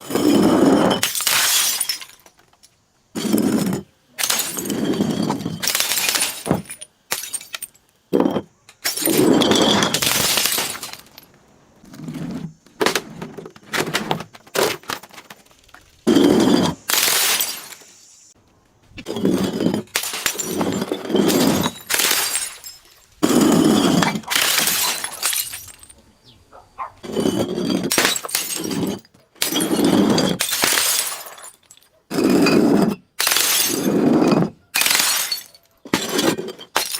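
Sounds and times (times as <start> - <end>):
glass bottles crushing and shattering: 0.0 - 11.3, 16.1 - 17.9, 19.0 - 26.0, 27.0 - 36.9.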